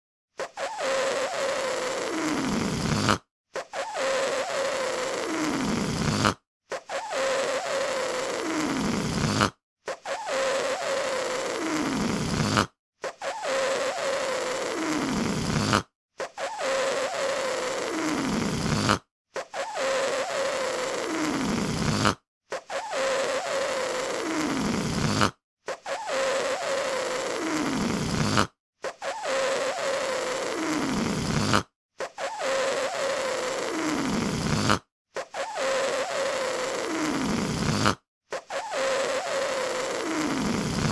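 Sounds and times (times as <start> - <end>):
balloon deflating with squeak: 0.4 - 40.9.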